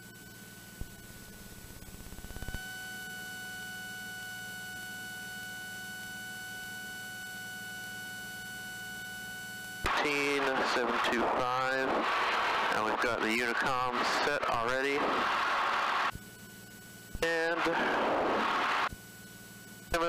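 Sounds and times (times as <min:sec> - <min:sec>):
electronic tone in headset: 0:00.0 - 0:12.1, 0:12.7 - 0:20.0
aircraft engine drone: 0:00.0 - 0:20.0.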